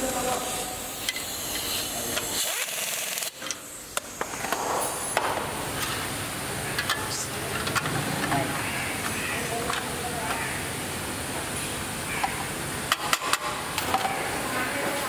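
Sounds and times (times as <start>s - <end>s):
workshop background noise: 0.0s - 15.0s.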